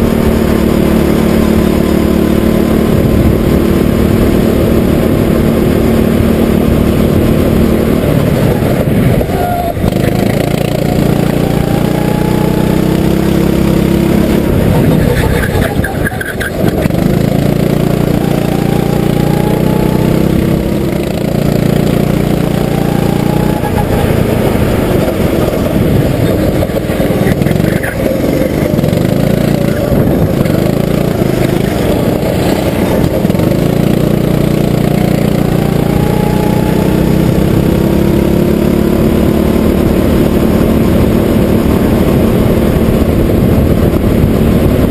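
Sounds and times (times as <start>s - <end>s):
go-kart engine revving: 0.0s - 44.9s.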